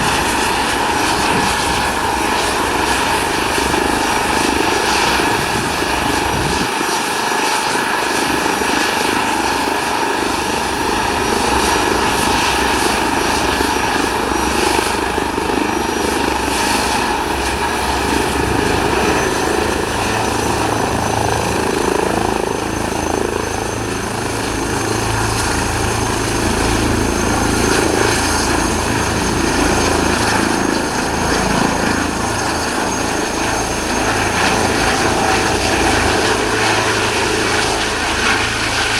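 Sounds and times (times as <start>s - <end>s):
helicopter turbine and rotor: 0.0s - 38.9s.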